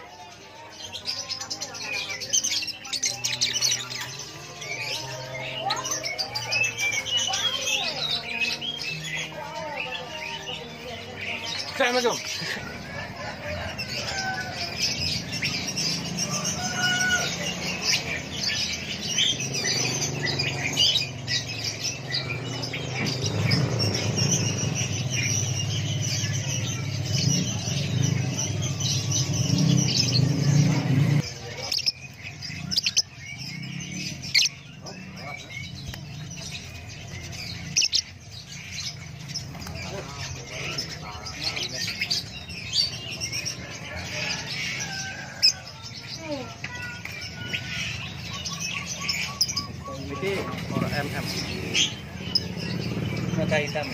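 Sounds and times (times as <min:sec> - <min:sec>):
lovebirds chirping: 0:00.0 - 0:53.9
murmur of voices: 0:00.0 - 0:53.9.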